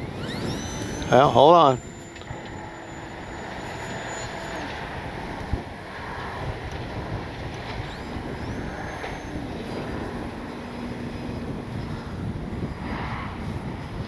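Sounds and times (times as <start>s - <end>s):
high whine of electric motor: 0.0s - 14.0s
wind buffeting microphone: 0.0s - 14.0s.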